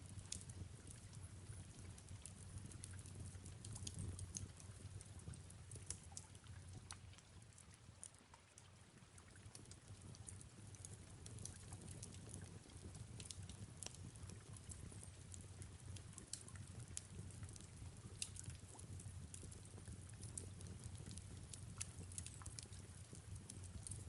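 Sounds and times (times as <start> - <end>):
soft rain: 0.0 - 24.0
fireplace crackling: 0.2 - 7.7, 9.5 - 24.0.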